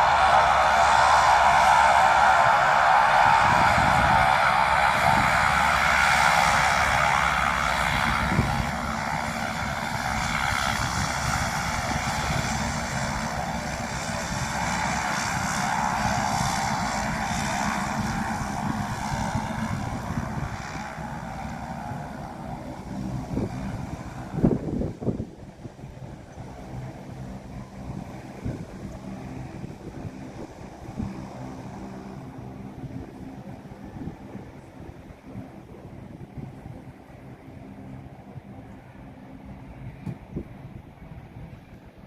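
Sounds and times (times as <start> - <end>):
airplane engines running: 0.0 - 42.0.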